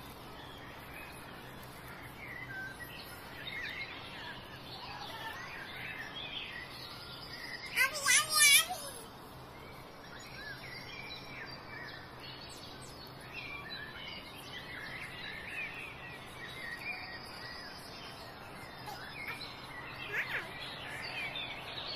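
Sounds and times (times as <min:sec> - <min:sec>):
small birds chirping: 0:00.0 - 0:21.9
steady background hiss: 0:00.0 - 0:21.9.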